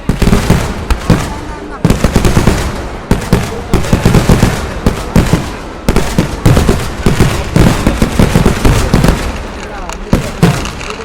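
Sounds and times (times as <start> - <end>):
fireworks crackers banging: 0.0 - 11.0
heavy firework bangs: 0.0 - 11.0.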